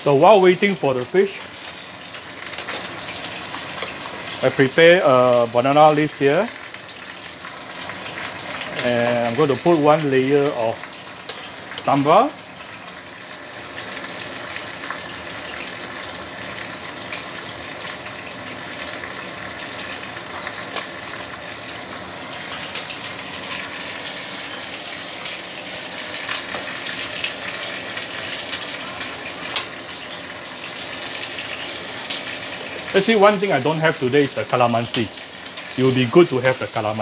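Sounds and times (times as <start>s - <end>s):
fish sizzling in hot oil: 0.0s - 37.0s.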